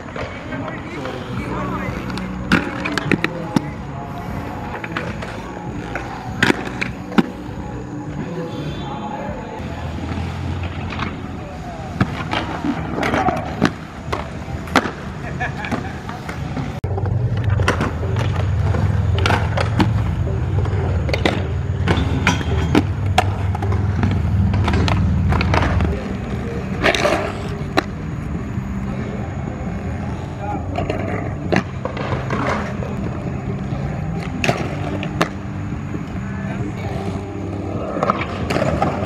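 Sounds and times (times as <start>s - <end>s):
skate wheels rolling on concrete: 0.0s - 39.0s.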